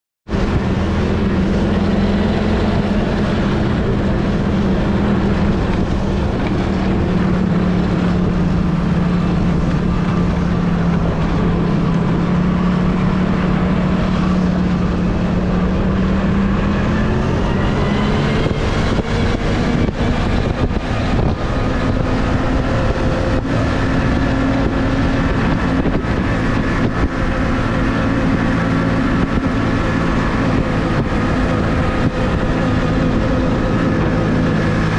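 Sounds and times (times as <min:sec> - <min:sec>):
snowmobile engine droning: 0:00.3 - 0:34.9.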